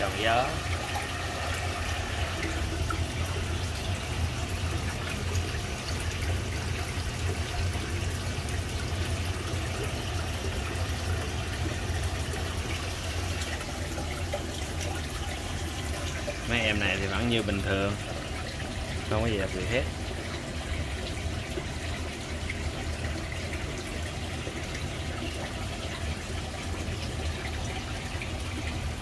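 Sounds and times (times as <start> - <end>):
water running through aquarium: 0.0 - 29.0.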